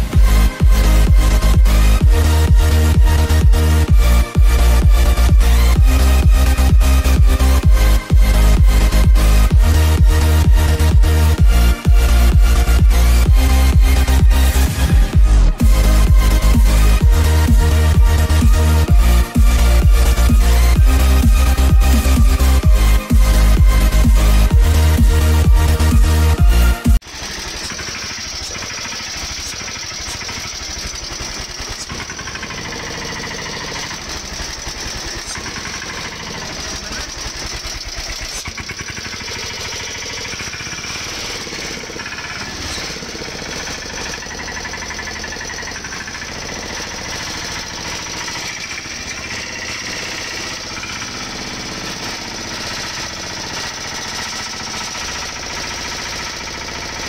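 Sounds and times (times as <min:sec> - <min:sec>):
diesel tractor engine idling: 0:00.0 - 0:57.0.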